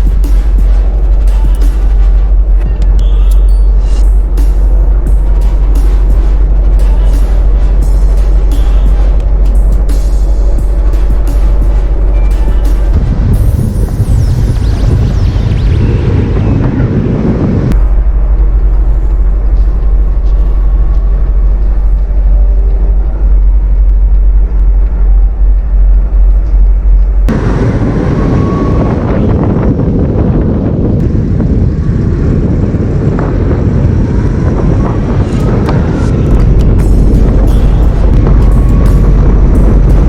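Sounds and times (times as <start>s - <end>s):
muffled deep drone: 0.0s - 40.0s
truck engine and road rumble: 0.0s - 40.0s
wind hiss: 0.0s - 40.0s.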